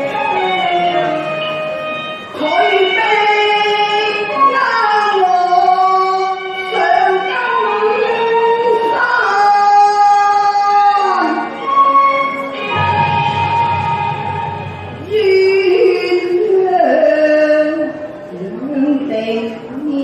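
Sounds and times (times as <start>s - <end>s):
opera singing high voice: 0.0s - 20.0s.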